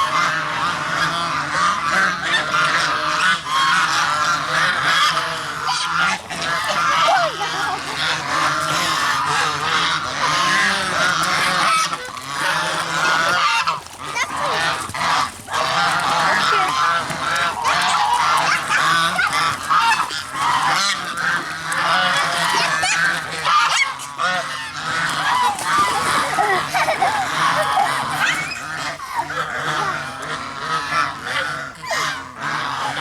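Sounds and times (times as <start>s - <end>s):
flock of geese honking: 0.0s - 33.0s.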